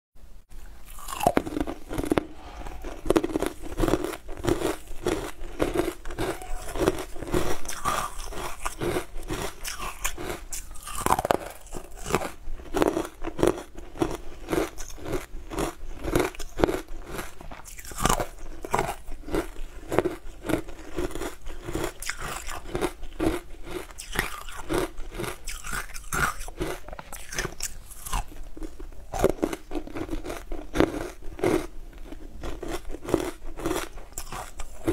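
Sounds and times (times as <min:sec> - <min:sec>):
crunching and chewing frozen food: 0:00.8 - 0:34.9.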